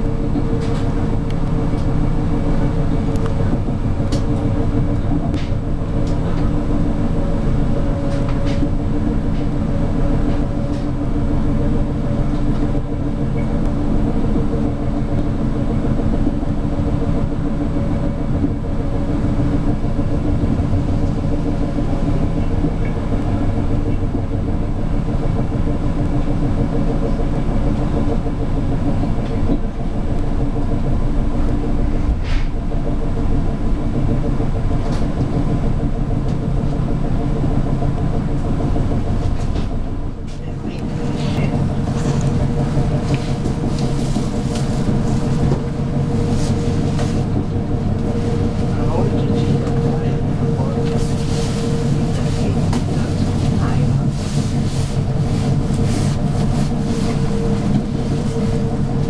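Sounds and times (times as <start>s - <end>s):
steady hum: 0.0s - 59.0s
train rumbling on track: 0.0s - 59.0s.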